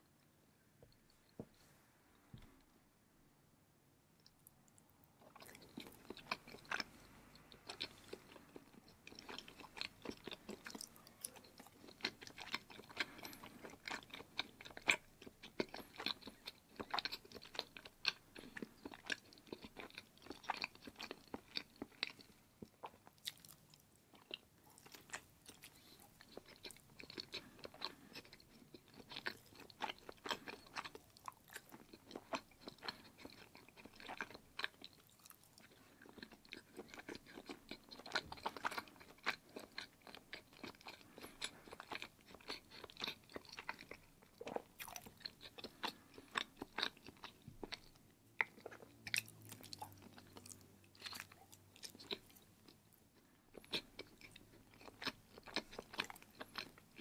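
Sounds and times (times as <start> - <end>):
person chewing with mouth clicks: 4.2 - 57.0.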